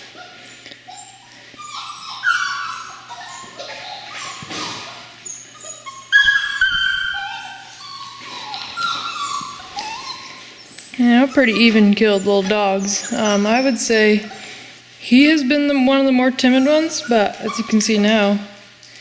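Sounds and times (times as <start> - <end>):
puppies whining and yipping: 0.0 - 14.9, 16.4 - 18.3.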